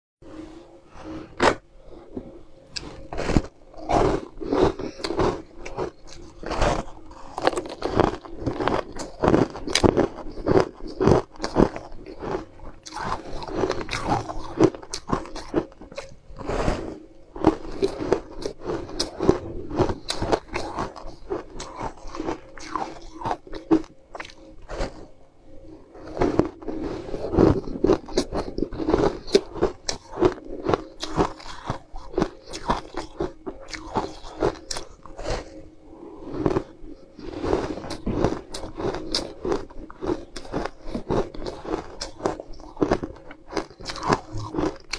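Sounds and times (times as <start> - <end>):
ice crunching between teeth: 2.8 - 16.6, 17.4 - 24.9, 26.0 - 35.6, 36.3 - 44.9.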